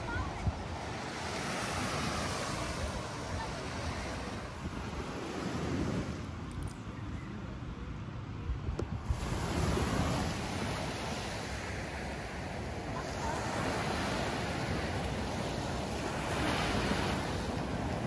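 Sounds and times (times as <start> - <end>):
ocean surf washing on beach: 0.0 - 6.6, 8.9 - 18.0
wind on microphone: 0.0 - 6.8, 8.4 - 18.0.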